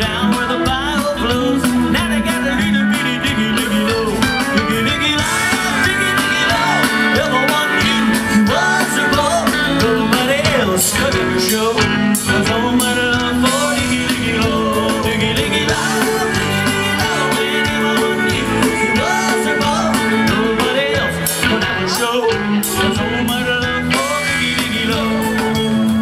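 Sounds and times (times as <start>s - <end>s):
live country band music: 0.0s - 26.0s.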